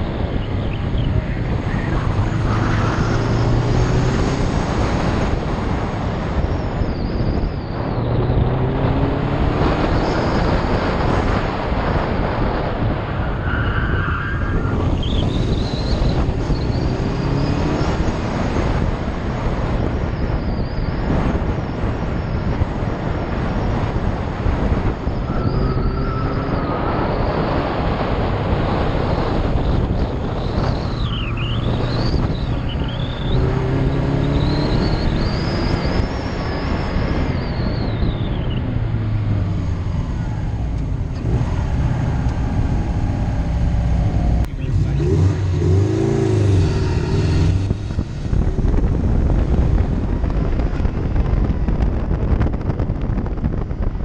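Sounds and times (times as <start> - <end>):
car engine revving: 0.0 - 6.5, 7.6 - 13.1, 14.2 - 20.1, 23.4 - 53.7
wind buffeting microphone: 0.0 - 54.0.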